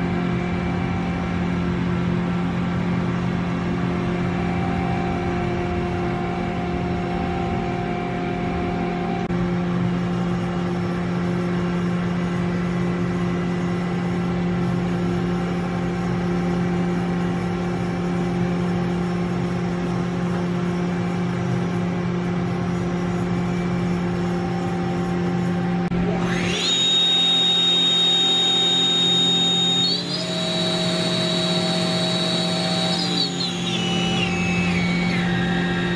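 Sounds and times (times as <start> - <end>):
machine hum: 0.0 - 35.9
rising whine: 0.0 - 35.9.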